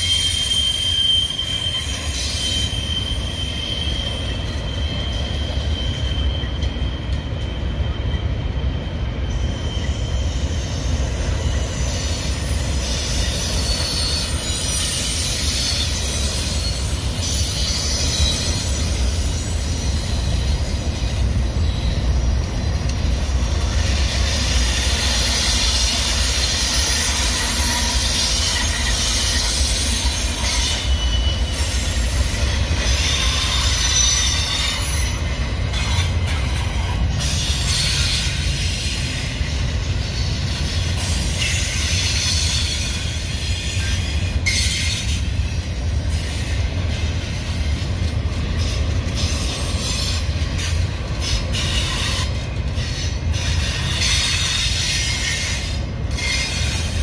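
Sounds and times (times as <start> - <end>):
freight train wheels rumbling on rails: 0.0 - 57.0
high wheel squeal: 0.0 - 57.0.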